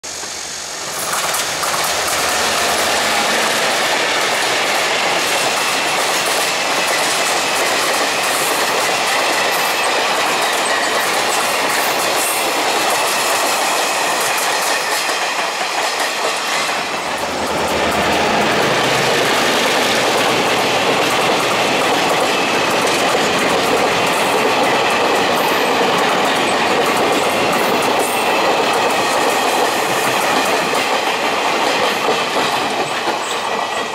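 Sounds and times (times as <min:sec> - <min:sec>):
diesel locomotives passing: 0:00.0 - 0:33.9.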